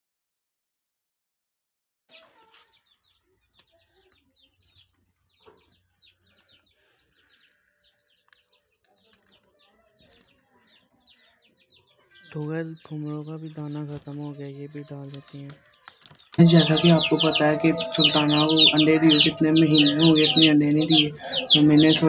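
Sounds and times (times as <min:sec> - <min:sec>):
small birds chirping: 0:02.1 - 0:22.0.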